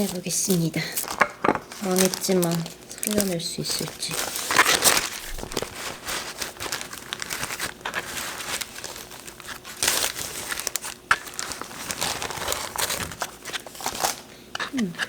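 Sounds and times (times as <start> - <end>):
parchment paper crinkling: 0.0 - 15.0.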